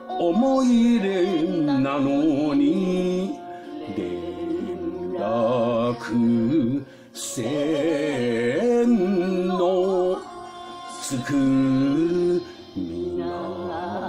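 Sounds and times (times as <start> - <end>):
woman singing with vibrato: 0.0 - 14.0.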